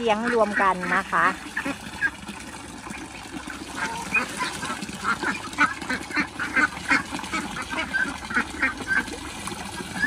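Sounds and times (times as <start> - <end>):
ducks quacking: 0.0 - 2.3, 3.6 - 10.0.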